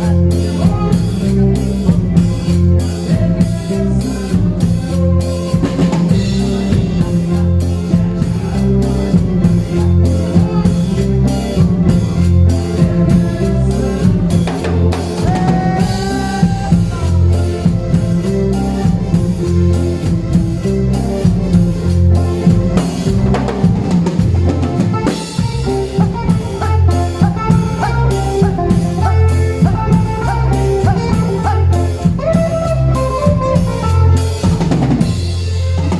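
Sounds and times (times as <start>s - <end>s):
drum kit with rimshots: 0.0s - 35.9s
lead instrument melody: 0.0s - 35.9s
repeating bass line: 0.0s - 35.9s.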